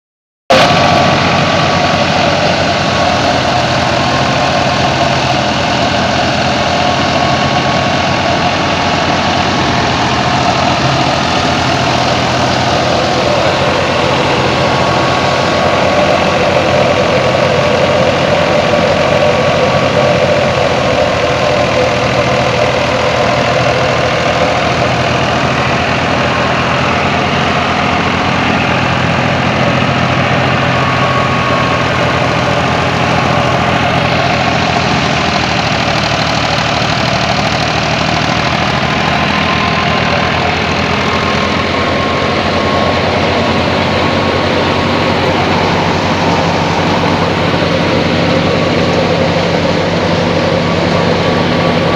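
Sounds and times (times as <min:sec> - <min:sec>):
thresher whirring: 0:00.5 - 0:51.9
tractor diesel engine running: 0:00.5 - 0:51.9.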